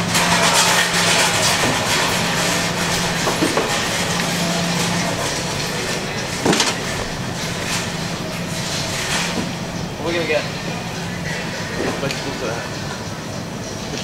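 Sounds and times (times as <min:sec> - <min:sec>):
shopping trolley rolling and rattling: 0:00.0 - 0:12.9
steady low hum: 0:00.0 - 0:14.0.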